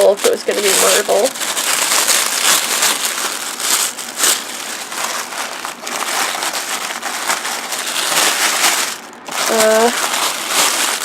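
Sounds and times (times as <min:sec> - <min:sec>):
wrapping paper crinkling: 0:00.0 - 0:11.0.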